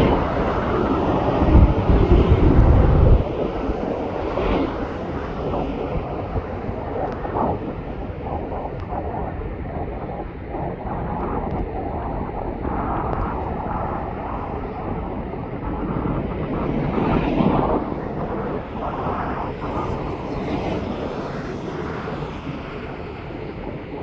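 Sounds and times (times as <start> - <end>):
airliner engines passing: 0.0 - 24.0
wind noise on microphone: 0.0 - 24.0.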